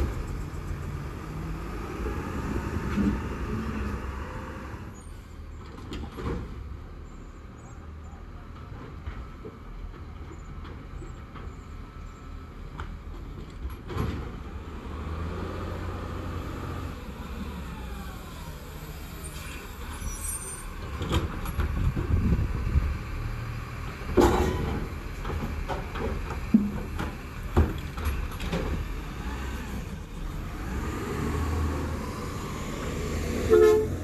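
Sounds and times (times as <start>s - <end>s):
garbage truck engine rumbling: 0.0s - 34.0s.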